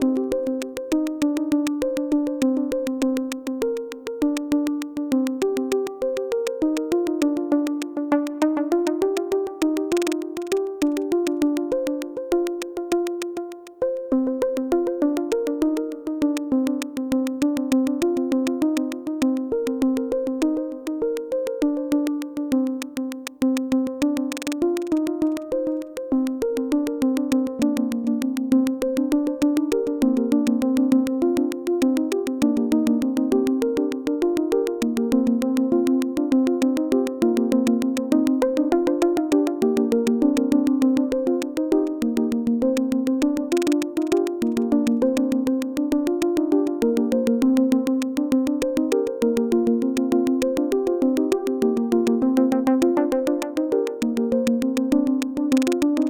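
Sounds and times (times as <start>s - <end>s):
fast ticking pulse: 0.0s - 56.0s
synthesizer sequenced notes: 0.0s - 56.0s.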